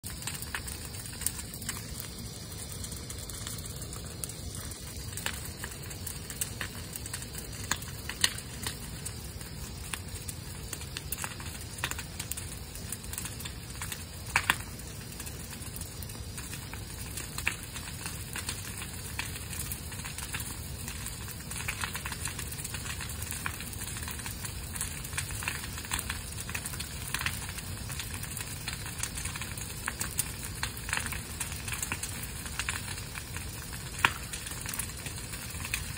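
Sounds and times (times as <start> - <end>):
bonfire crackling and popping: 0.0 - 35.9
rush of flames: 0.0 - 35.9.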